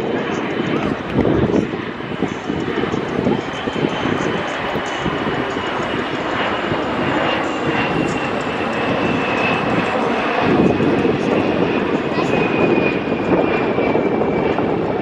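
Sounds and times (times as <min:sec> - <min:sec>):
jet roar with high whine: 0:00.0 - 0:15.0.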